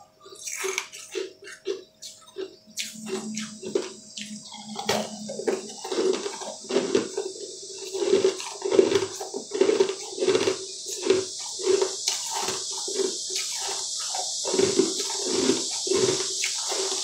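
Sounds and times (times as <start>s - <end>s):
crunchy chewing close up: 0.0s - 17.0s
steady hiss: 2.0s - 17.0s.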